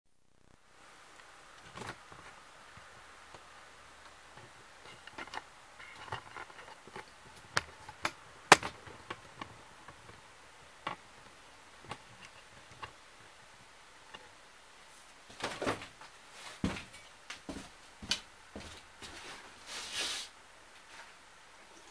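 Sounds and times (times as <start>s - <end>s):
faint room hiss: 0.1s - 21.9s.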